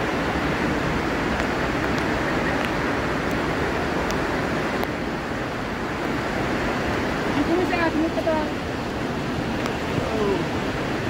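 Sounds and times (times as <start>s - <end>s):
fast-flowing stream rushing: 0.0s - 11.0s.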